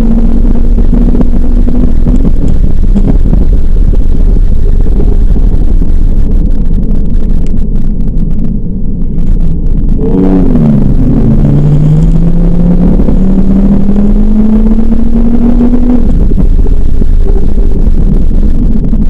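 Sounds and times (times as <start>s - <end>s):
car engine accelerating: 0.0s - 19.0s
heavy rumble: 0.0s - 19.0s.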